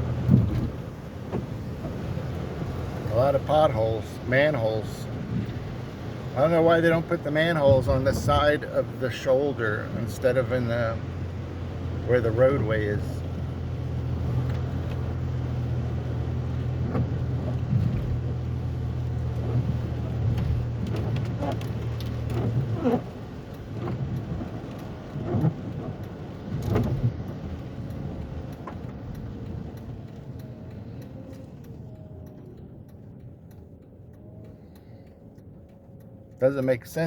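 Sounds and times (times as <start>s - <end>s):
car cabin road drone: 0.0s - 37.0s.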